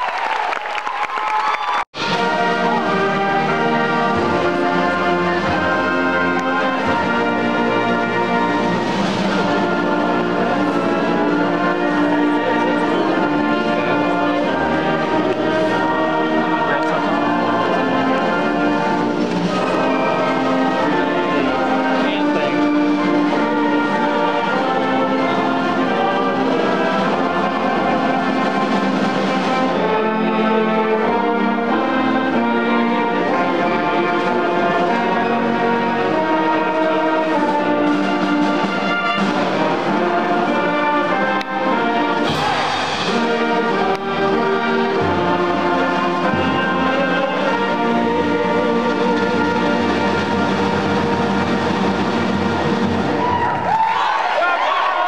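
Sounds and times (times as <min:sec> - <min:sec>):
brass band playing: 0:01.7 - 0:55.0.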